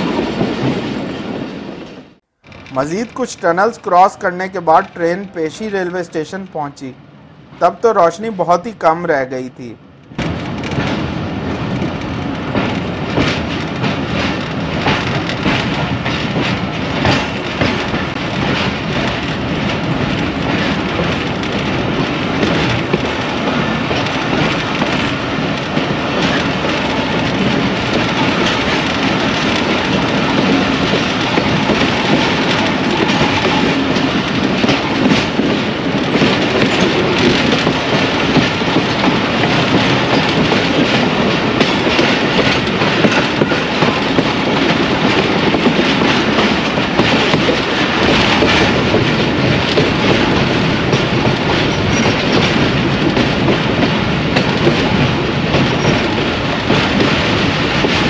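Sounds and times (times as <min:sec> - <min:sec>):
train rumbling: 0:00.0 - 0:58.0
wheels clicking over rail joints: 0:10.1 - 0:58.0.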